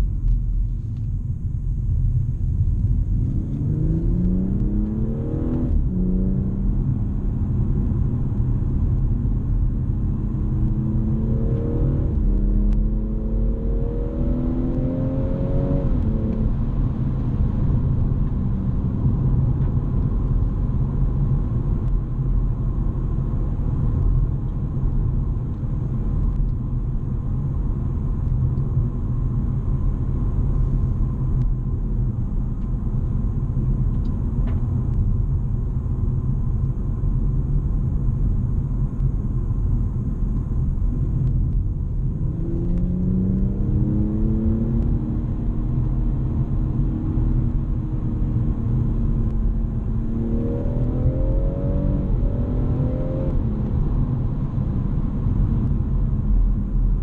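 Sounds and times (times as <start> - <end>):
road and tyre rumble: 0.0 - 57.0
car engine accelerating: 1.7 - 57.0.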